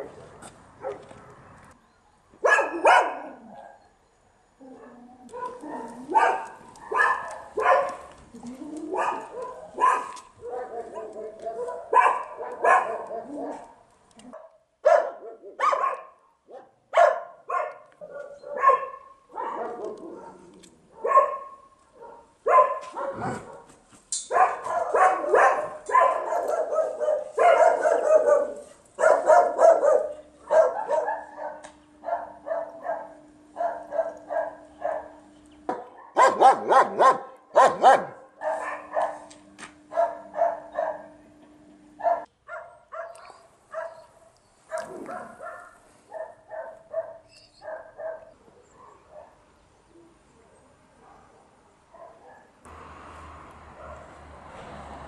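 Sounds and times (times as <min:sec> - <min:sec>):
dog barking: 0:00.8 - 0:01.1, 0:02.4 - 0:03.8, 0:04.7 - 0:08.1, 0:08.9 - 0:39.3, 0:39.9 - 0:41.2, 0:42.0 - 0:49.4, 0:51.0 - 0:52.6, 0:53.8 - 0:54.1.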